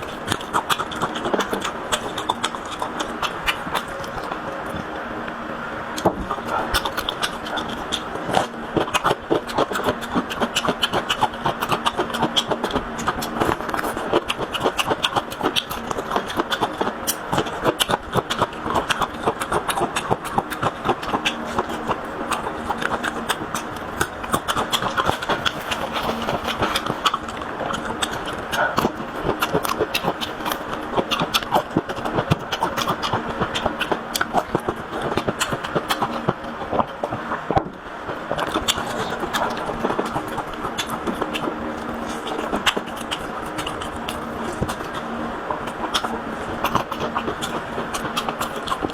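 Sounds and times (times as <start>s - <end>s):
faint steady hum: 0.0s - 48.9s
person chewing food: 0.0s - 48.9s.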